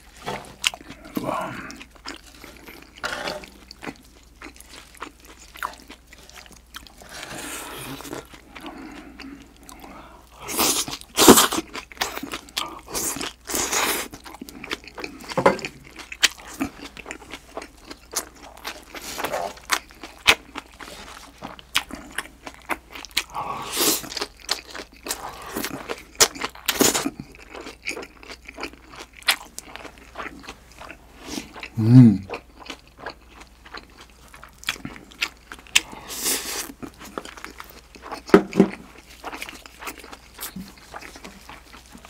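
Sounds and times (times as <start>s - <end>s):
wet chewing and crunching: 0.0s - 42.0s.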